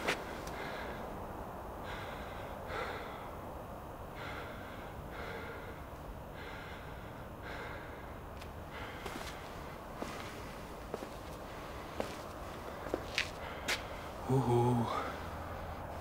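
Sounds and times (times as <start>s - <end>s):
low outdoor rumble: 0.0s - 16.0s
person breathing heavily: 0.2s - 16.0s.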